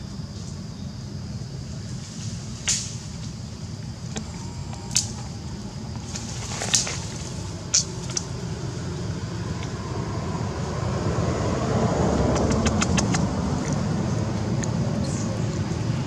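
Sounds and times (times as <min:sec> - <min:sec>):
road vehicle rumbling past: 0:01.4 - 0:16.0.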